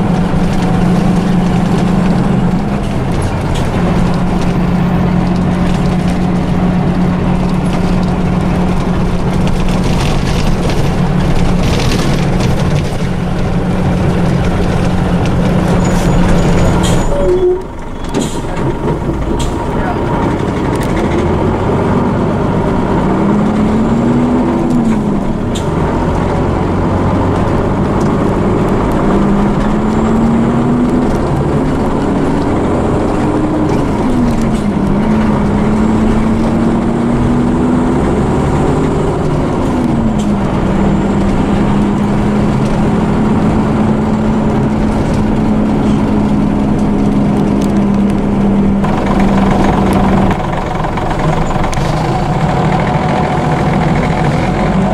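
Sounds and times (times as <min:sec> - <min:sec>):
bus diesel engine: 0:00.0 - 0:54.9
road noise rumble: 0:00.0 - 0:54.9.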